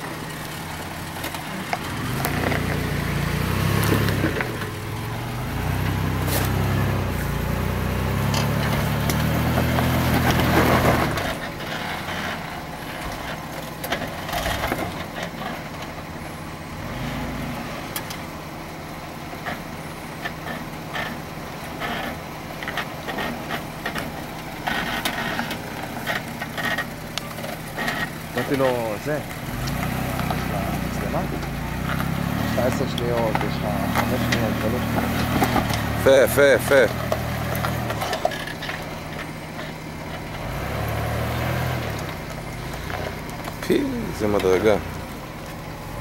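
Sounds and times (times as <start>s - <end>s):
car engine revving under load: 0.0s - 46.0s.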